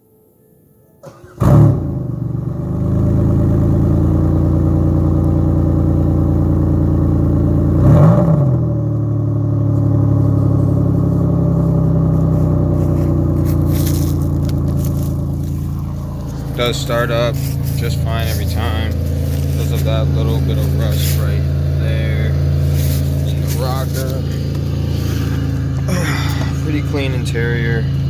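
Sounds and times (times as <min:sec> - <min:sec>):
car engine starting and idling: 0:00.8 - 0:28.0
engine revving: 0:01.0 - 0:28.0.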